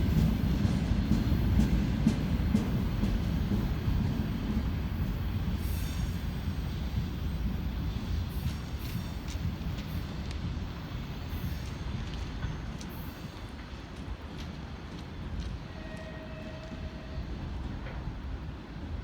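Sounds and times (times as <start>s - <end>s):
train rolling past on rails: 0.0s - 19.0s.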